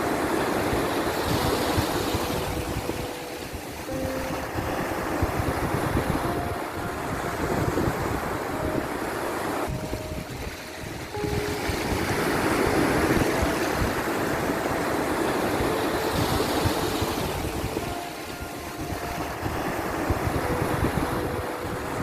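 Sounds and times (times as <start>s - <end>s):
waves washing in: 0.0s - 22.0s.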